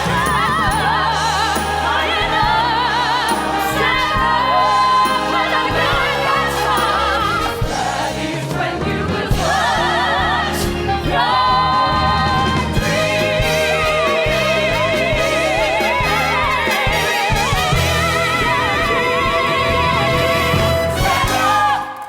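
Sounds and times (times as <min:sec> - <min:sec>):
band accompaniment: 0:00.0 - 0:22.0
choir singing gospel: 0:00.0 - 0:22.0.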